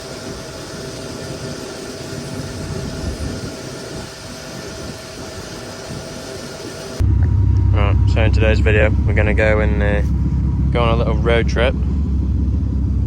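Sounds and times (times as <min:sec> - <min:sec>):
faint constant whine: 0:00.0 - 0:13.0
vehicle engine rumbling: 0:00.0 - 0:13.0.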